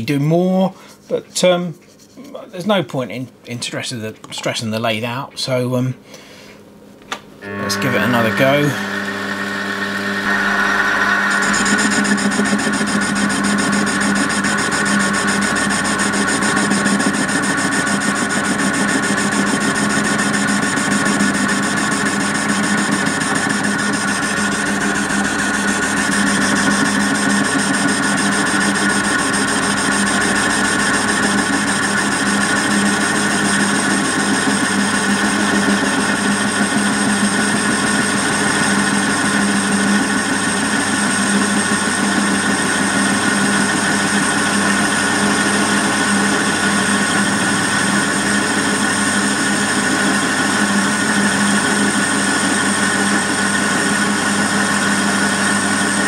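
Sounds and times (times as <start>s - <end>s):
high steady lathe tones: 7.4s - 56.0s
metal lathe hum: 7.4s - 56.0s.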